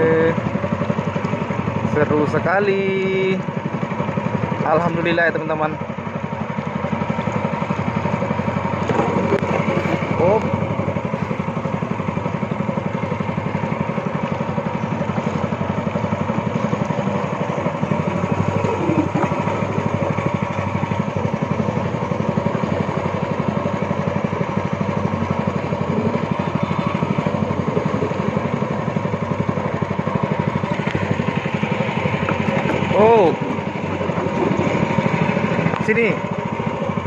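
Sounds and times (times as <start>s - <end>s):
outboard motor running: 0.0s - 37.0s.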